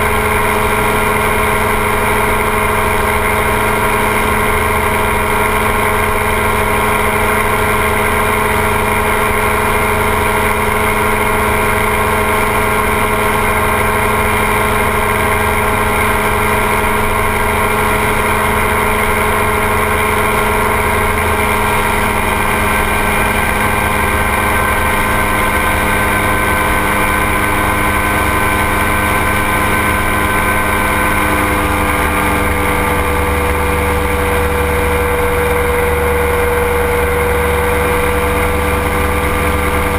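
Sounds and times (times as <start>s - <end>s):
light aircraft engine and propeller drone: 0.0s - 39.9s.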